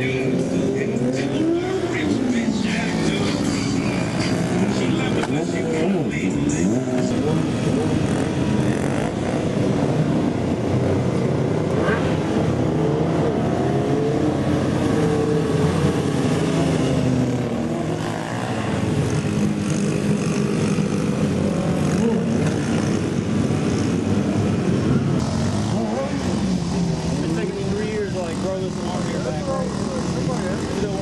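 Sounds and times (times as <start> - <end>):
mini bike engines revving: 0.0 - 31.0.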